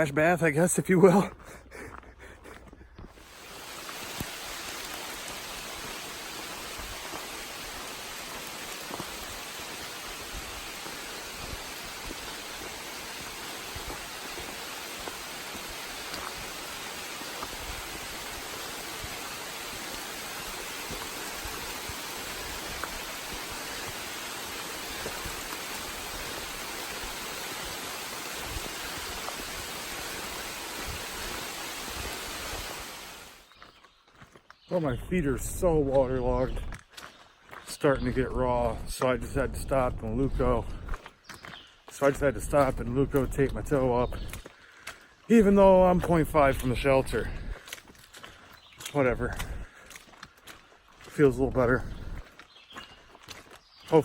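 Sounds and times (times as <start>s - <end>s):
rain hissing: 3.1s - 33.6s, 34.7s - 36.8s, 37.6s - 54.0s.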